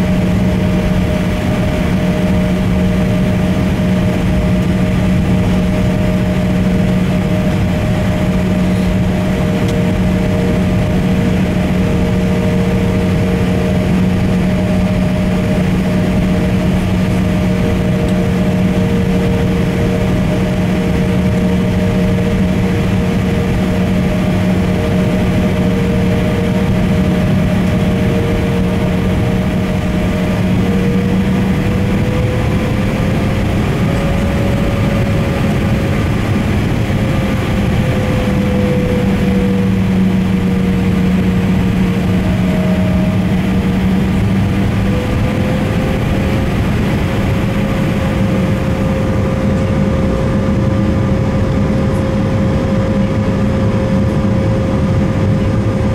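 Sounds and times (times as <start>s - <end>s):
jet engines idling in cabin: 0.0s - 55.9s.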